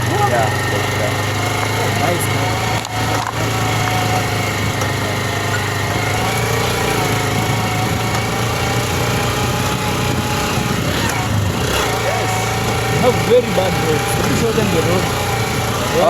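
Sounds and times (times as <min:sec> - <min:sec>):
small motorcycle engine drone: 0:00.0 - 0:16.0.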